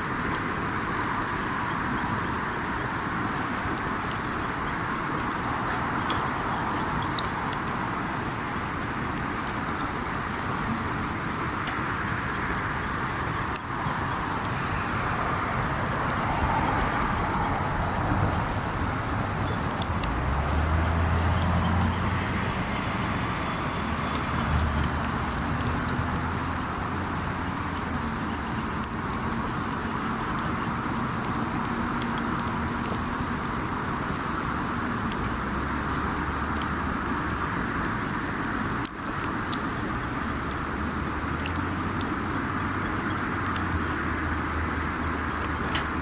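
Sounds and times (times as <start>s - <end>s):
burning wood pops and crackles: 0.0s - 46.0s
campfire flame rushing and hissing: 0.0s - 46.0s.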